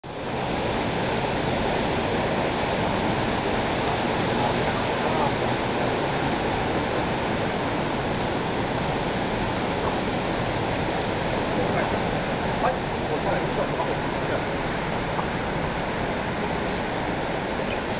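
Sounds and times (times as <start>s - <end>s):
stream water rushing: 0.0s - 17.9s.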